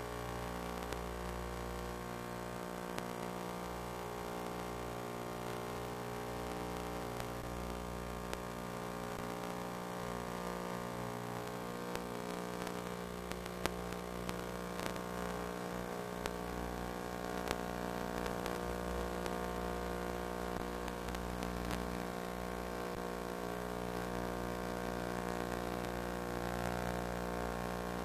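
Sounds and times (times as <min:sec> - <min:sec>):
static clicks: 0:00.3 - 0:28.0.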